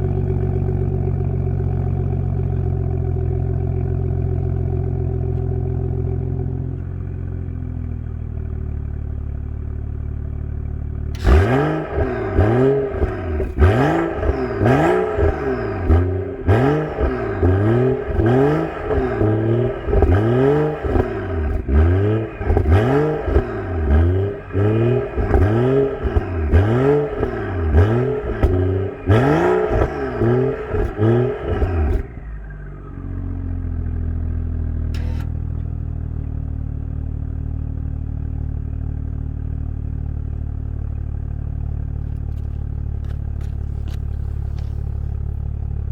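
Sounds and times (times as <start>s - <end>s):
car exhaust idling and revving: 0.0s - 45.9s.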